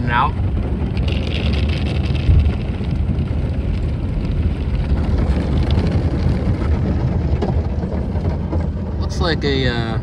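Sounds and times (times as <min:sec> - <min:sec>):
car wash rumble and swish: 0:00.0 - 0:10.0.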